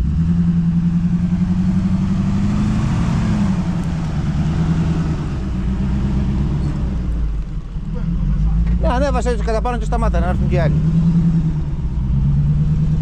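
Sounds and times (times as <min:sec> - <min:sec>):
vehicle engine running at low speed: 0:00.0 - 0:13.0.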